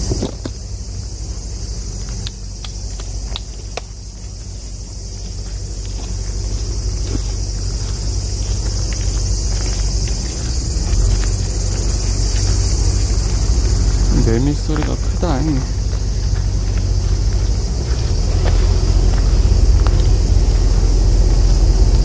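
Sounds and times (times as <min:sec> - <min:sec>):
cicadas buzzing: 0:00.0 - 0:22.0
footsteps on gravel: 0:00.0 - 0:22.0
low rumble: 0:00.0 - 0:22.0.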